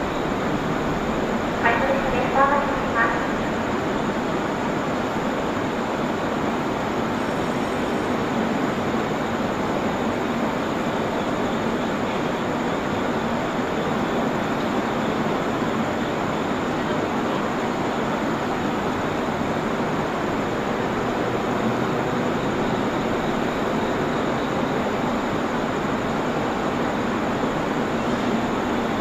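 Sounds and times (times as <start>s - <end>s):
train noise: 0.0s - 29.0s.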